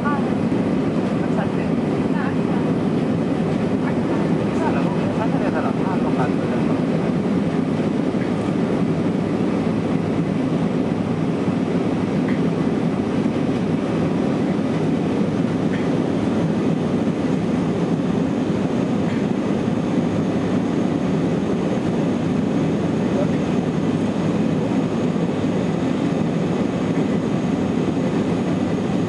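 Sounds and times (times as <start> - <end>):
air rushing along fuselage: 0.0 - 29.0
jet engines droning: 0.0 - 29.0.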